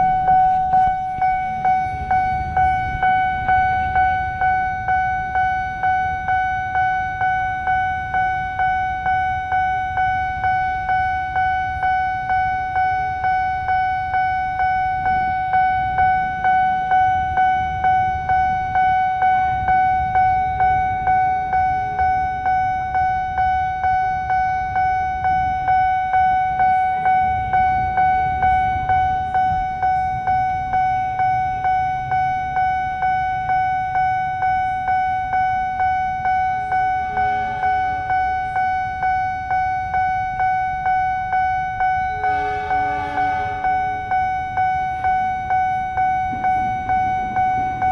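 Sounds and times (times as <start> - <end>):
level crossing warning bell: 0.0 - 47.9.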